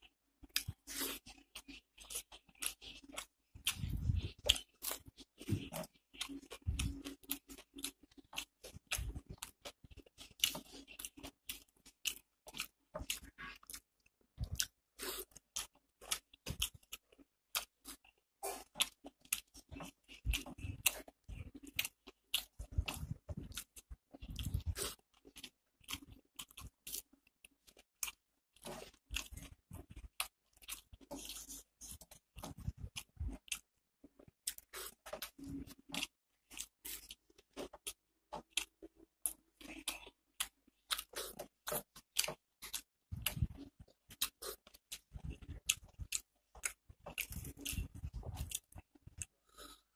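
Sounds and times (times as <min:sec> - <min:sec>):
chewing and crunching: 0:00.0 - 0:49.9.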